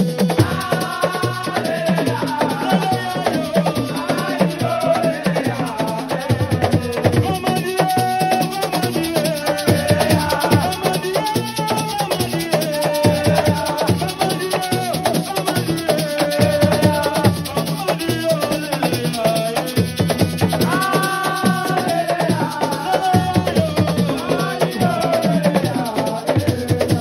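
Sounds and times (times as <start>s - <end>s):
drums: 0.0s - 27.0s
rattling shakers: 0.0s - 27.0s
person singing: 0.2s - 27.0s.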